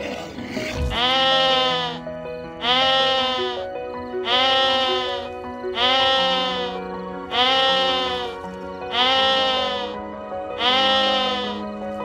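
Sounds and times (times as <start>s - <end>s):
background music: 0.0s - 12.0s
animal calling: 0.8s - 2.0s, 2.6s - 11.8s.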